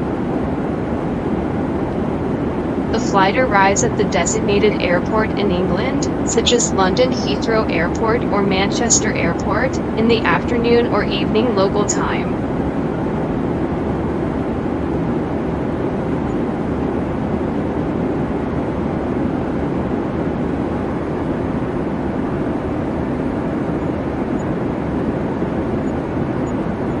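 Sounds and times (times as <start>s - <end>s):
jet airliner drone in flight: 0.0s - 27.0s.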